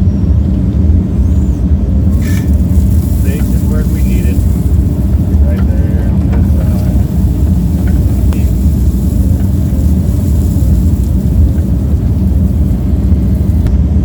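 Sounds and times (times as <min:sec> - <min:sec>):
excavator diesel engine droning: 0:00.0 - 0:14.0.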